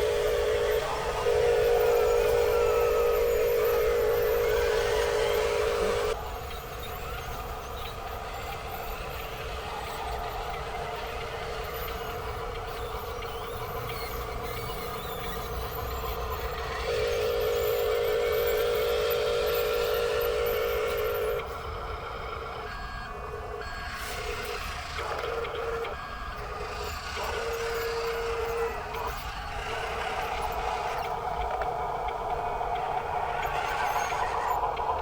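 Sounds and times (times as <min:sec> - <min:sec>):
toy electric motors whirring: 0:00.0 - 0:21.7, 0:23.6 - 0:35.0
steady motor whine: 0:00.0 - 0:35.0.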